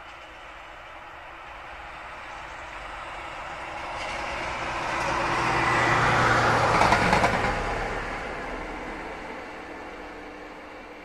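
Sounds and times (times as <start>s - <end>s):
diesel locomotive passing: 0.0s - 11.0s.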